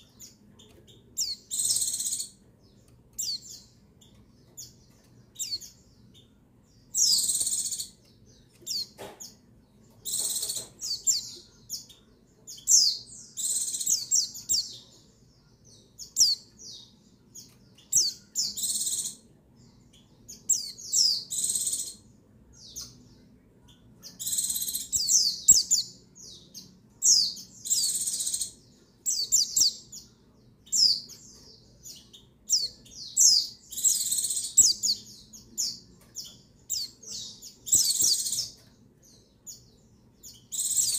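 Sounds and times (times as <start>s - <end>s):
bird chirping and twittering: 0.0s - 40.9s.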